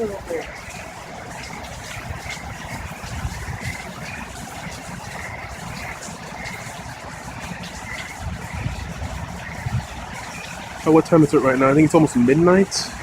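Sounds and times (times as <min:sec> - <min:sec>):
wind blowing: 0:00.0 - 0:13.0
wind gusts rumbling on microphone: 0:00.0 - 0:13.0.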